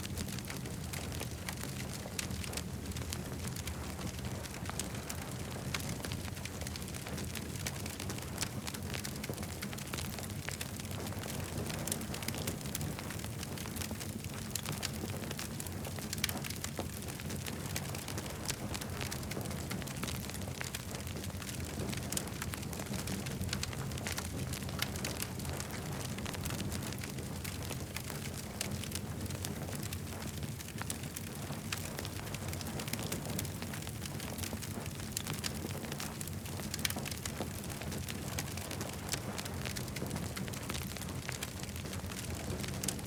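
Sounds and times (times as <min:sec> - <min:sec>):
campfire crackling and popping: 0:00.0 - 0:43.0
low fire rumble: 0:00.0 - 0:43.0.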